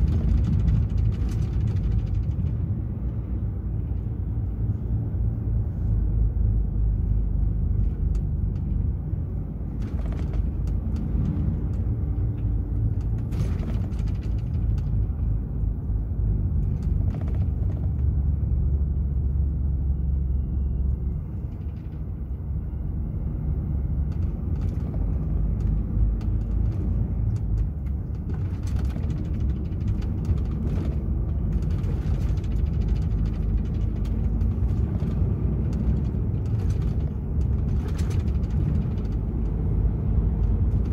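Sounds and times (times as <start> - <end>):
diesel truck engine rumble: 0.0 - 40.9
road noise: 0.0 - 40.9.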